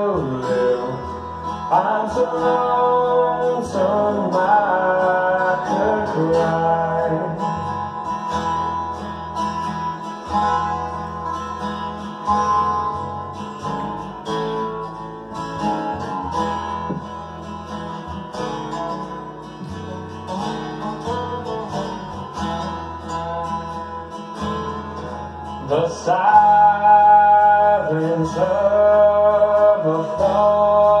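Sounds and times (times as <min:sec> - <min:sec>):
acoustic guitar playing: 0:00.0 - 0:31.0
walking bass line: 0:00.0 - 0:31.0.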